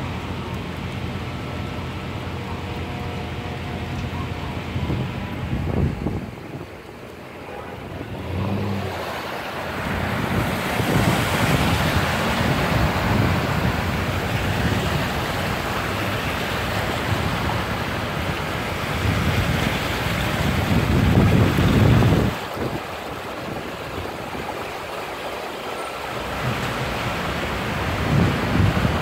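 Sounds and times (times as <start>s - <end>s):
cars splashing through floodwater: 0.0s - 29.0s.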